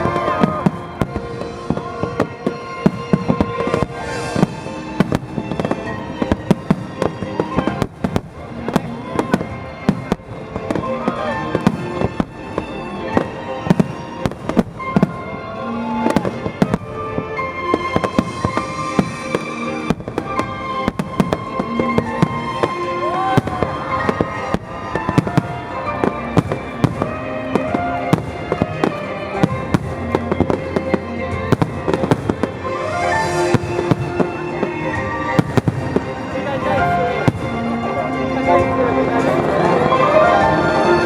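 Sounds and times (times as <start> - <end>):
fireworks bangs and crackling: 0.0 - 41.0
music playing: 0.0 - 41.0.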